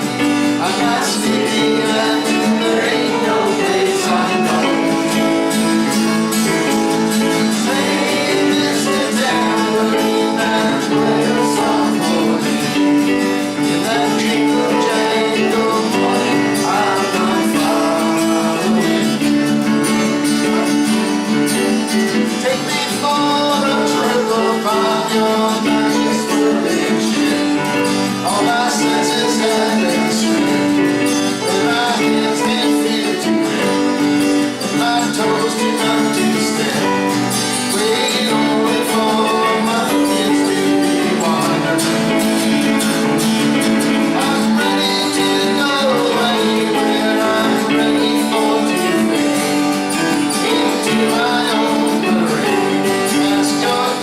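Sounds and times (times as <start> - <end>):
band playing with guitars: 0.0 - 54.0.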